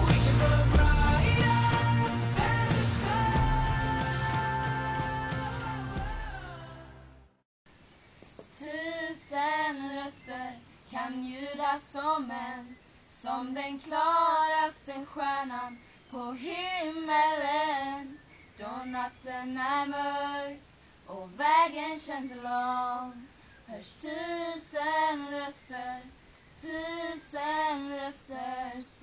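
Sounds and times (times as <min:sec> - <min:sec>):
girls singing unaccompanied: 0:00.0 - 0:06.8, 0:08.6 - 0:20.6, 0:21.2 - 0:29.0.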